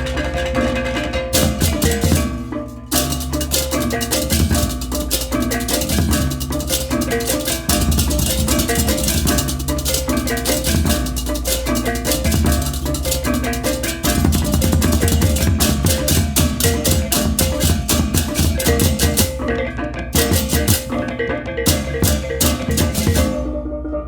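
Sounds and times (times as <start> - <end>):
clashing cymbals: 0.0 - 19.6, 20.2 - 21.1, 21.7 - 23.7
hand drums: 0.0 - 23.7
kettle gongs playing figures: 0.0 - 24.0.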